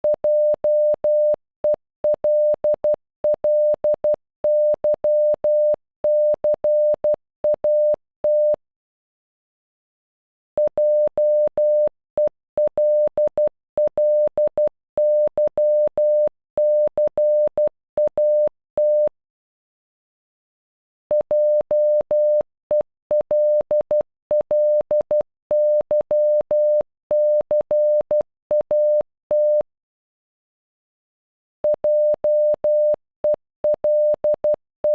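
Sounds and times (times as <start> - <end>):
morse code beeps: 0.0 - 8.6, 10.6 - 19.1, 21.1 - 29.6, 31.6 - 34.9.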